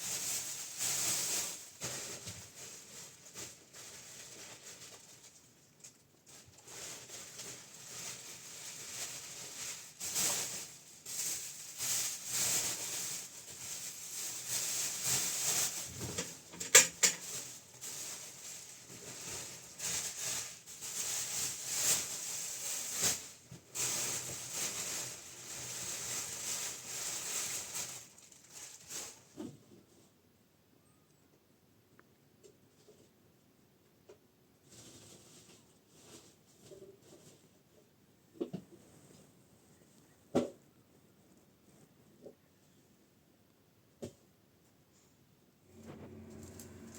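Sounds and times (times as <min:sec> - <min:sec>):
rustling and scraping objects: 0:00.0 - 0:30.2, 0:34.6 - 0:42.7, 0:45.0 - 0:46.9.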